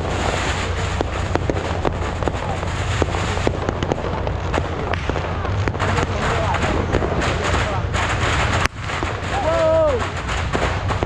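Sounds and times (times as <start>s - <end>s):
crowd hubbub: 0.0s - 11.0s
firecrackers popping: 0.0s - 11.0s
steady low rumble: 0.0s - 11.0s.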